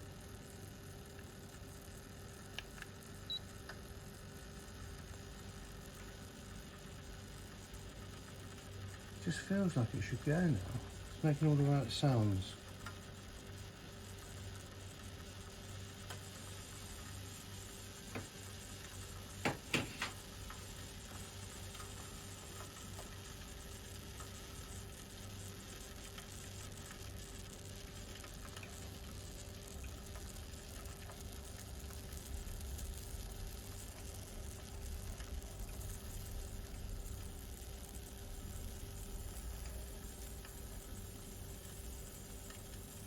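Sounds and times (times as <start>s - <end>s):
steam boiler hissing: 4.8s - 43.0s.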